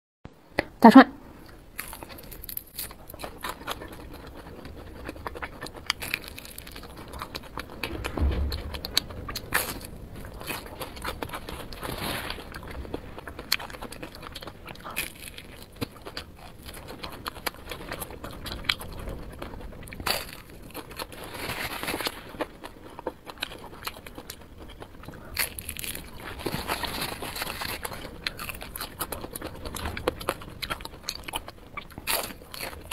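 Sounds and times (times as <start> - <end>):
biting and chewing food: 1.4 - 32.9.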